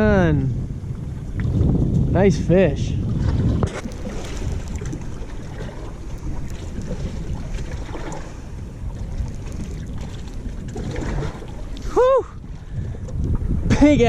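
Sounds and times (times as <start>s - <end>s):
water lapping against hull: 0.0s - 14.0s
wind rumbling on microphone: 0.0s - 14.0s.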